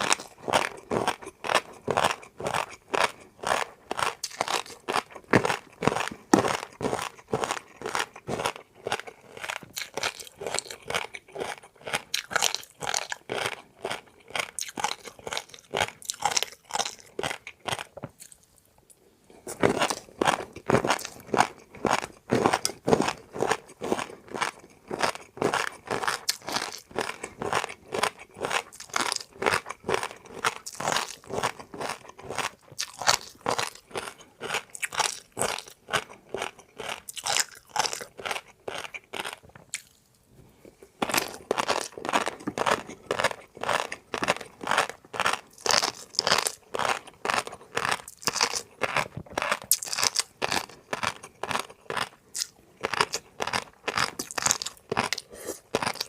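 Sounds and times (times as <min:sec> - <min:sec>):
chewing crunchy food: 0:00.0 - 0:56.0.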